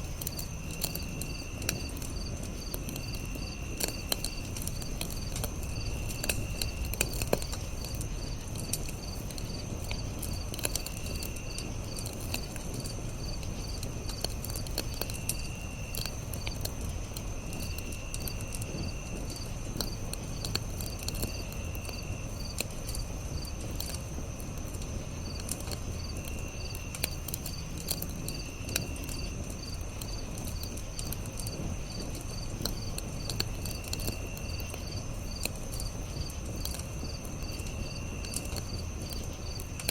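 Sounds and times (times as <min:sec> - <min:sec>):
campfire crackling and popping: 0:00.0 - 0:39.9
crickets chirping: 0:00.0 - 0:39.9
high insect trill: 0:00.0 - 0:39.9.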